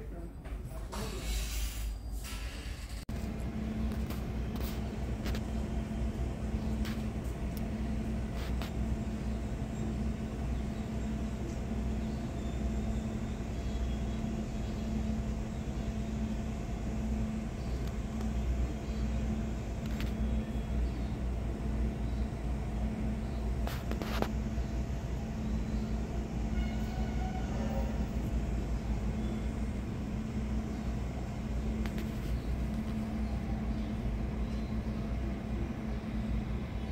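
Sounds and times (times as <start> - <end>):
steady low rumble with hum: 0.0 - 36.9.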